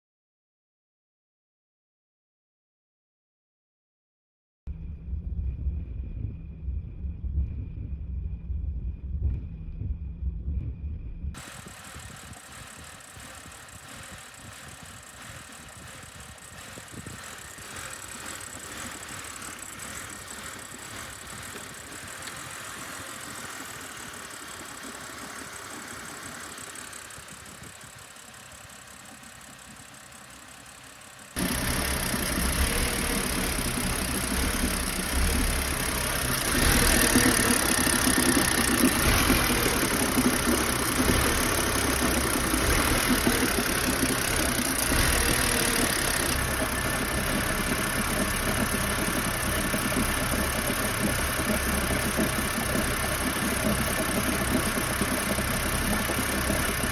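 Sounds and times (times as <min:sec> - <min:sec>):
car engine idling roughly: 0:11.4 - 0:56.9.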